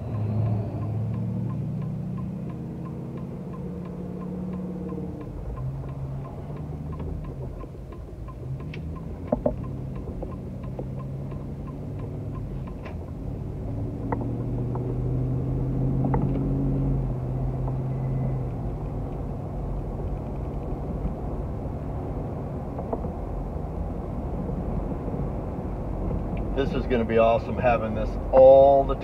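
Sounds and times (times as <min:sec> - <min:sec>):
light regular ticking: 0:00.0 - 0:24.5
car engine and road noise: 0:00.0 - 0:29.0.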